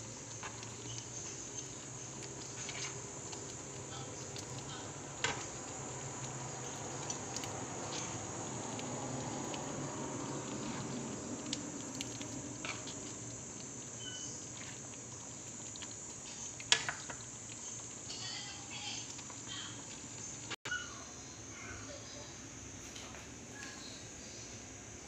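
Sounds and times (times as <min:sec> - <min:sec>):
stew simmering in a pan: 0:00.0 - 0:25.0.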